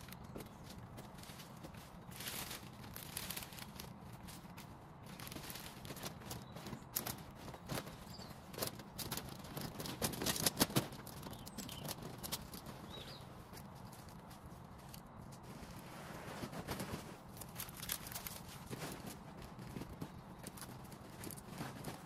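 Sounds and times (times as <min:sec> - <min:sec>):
branches snapping: 0:00.0 - 0:15.4, 0:16.6 - 0:22.0
branches snipped and rustling: 0:00.0 - 0:22.0.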